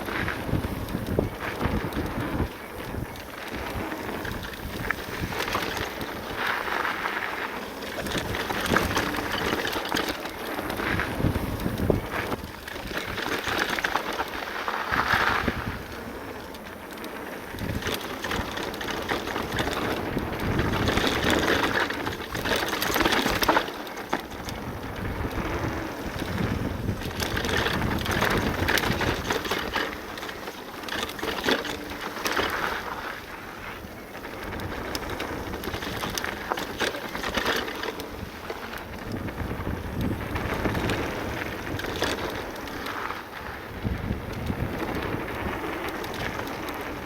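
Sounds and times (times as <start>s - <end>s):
bike clicks and knocks: 0.0s - 47.0s
tyres crunching on gravel: 0.0s - 47.0s
wind buffeting microphone: 0.0s - 47.0s.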